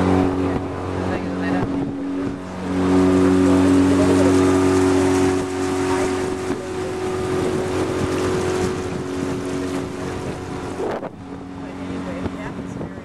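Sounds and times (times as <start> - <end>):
outboard motor running: 0.0 - 13.0
water rushing along hull: 0.0 - 13.0.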